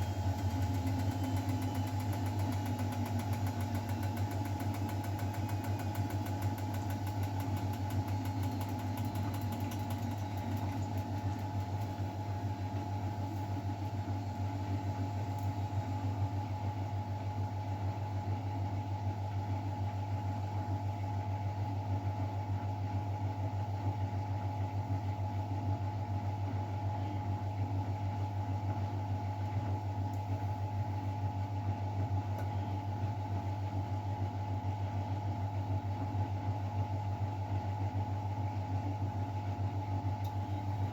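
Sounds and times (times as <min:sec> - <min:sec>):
washing machine hum: 0:00.0 - 0:40.9.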